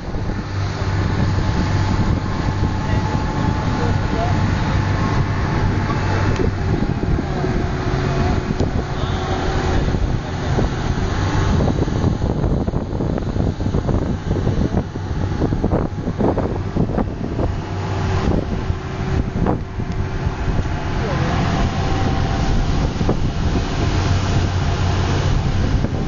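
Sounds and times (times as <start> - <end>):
speedboat engine rumble: 0.0 - 26.0
water rushing: 0.0 - 26.0
wind buffeting microphone: 0.0 - 26.0.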